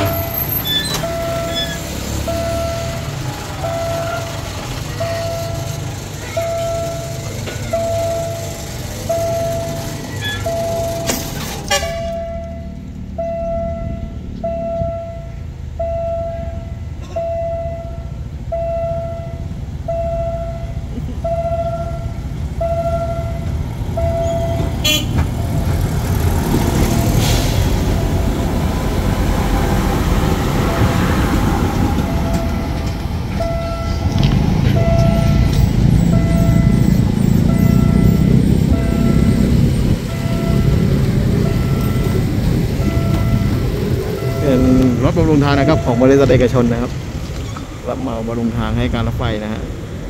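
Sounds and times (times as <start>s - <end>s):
track machine running past: 0.0s - 15.9s, 18.6s - 47.8s
level crossing warning tone: 0.0s - 25.8s, 29.4s - 47.0s.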